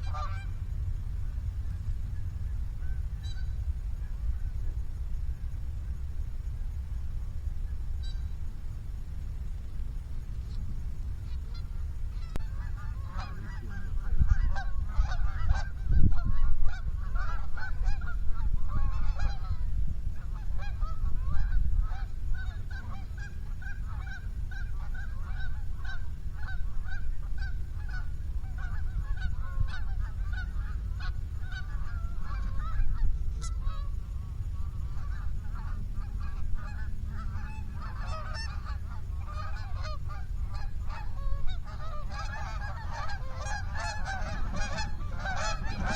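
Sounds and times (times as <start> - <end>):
geese honking: 0.0 - 0.7, 1.8 - 4.2, 8.0 - 8.3, 11.2 - 45.9
steady low rumble: 0.0 - 45.9.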